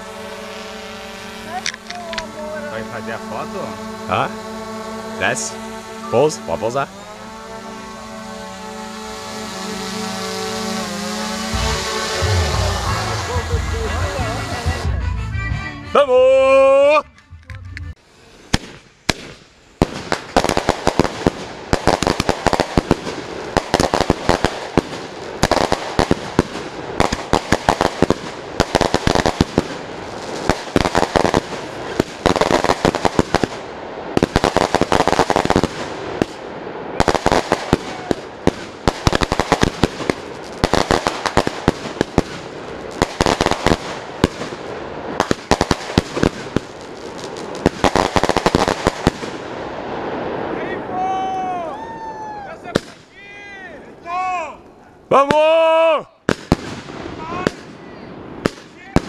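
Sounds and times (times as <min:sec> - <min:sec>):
fireworks bangs and crackles: 0:00.0 - 0:14.9, 0:18.3 - 0:52.0, 0:52.6 - 0:54.0, 0:56.2 - 0:59.0.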